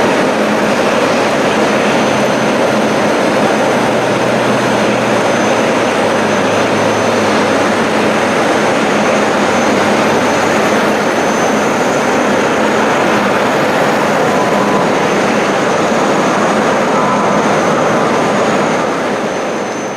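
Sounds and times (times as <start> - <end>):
high-pitched engine whine: 0.0 - 19.9
jet engines roaring: 0.0 - 19.9.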